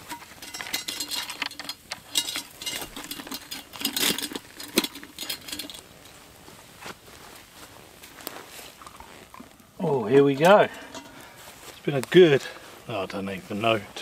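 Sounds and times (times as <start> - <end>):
coals and metal clinking on lid: 0.0 - 6.4, 7.3 - 13.8.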